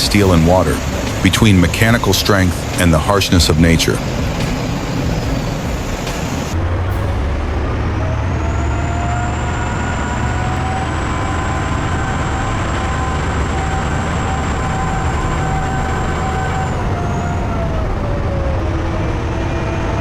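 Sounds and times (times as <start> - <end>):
steady whine: 0.0 - 20.0
truck diesel engine rumbling: 0.0 - 20.0.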